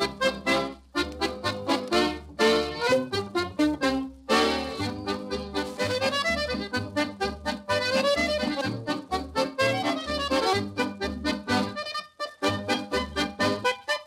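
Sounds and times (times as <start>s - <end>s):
bouncing bass line: 0.0s - 13.7s
upbeat instrumental music: 0.0s - 14.0s.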